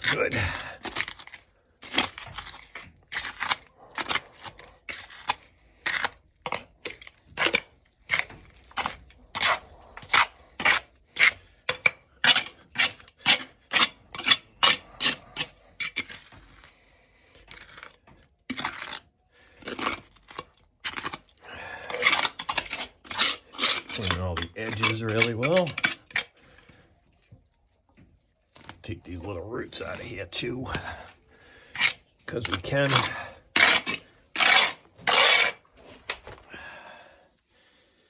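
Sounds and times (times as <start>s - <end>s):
metal tool scraping dirt: 0.0s - 16.6s, 17.4s - 26.4s, 28.5s - 36.4s.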